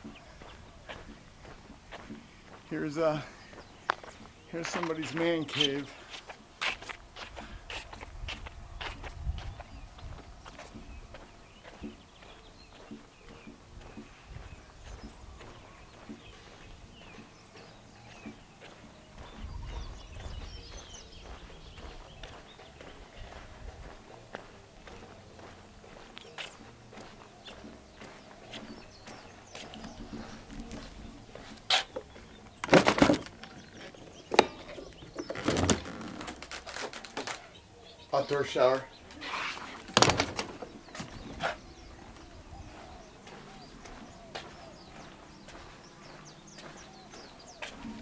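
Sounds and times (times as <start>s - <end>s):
footsteps on concrete: 0.0s - 48.0s.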